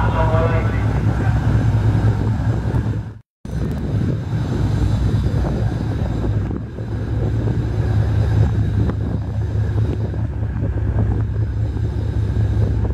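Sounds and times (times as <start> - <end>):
boat engines humming: 0.0 - 12.9
wind buffeting microphone: 0.0 - 12.9.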